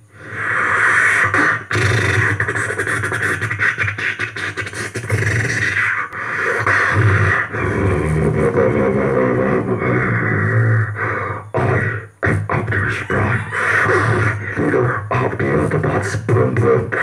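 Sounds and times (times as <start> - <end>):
beatboxing into microphone: 0.0 - 17.0.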